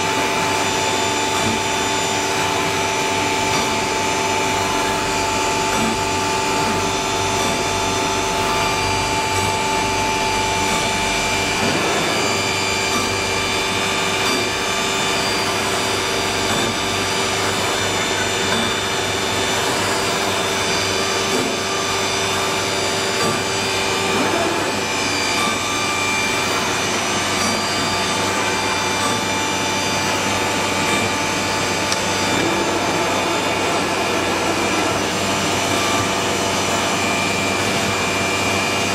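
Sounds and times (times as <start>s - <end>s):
wood router spindle whine: 0.0s - 38.9s.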